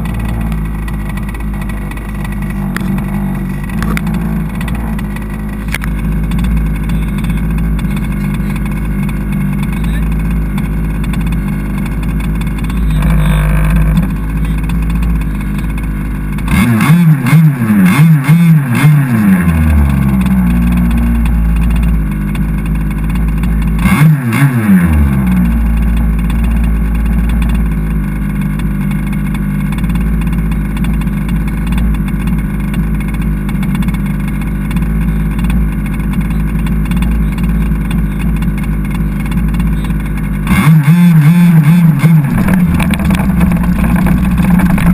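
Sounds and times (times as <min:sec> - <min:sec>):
two-stroke engine idling and revving: 0:00.0 - 0:44.9.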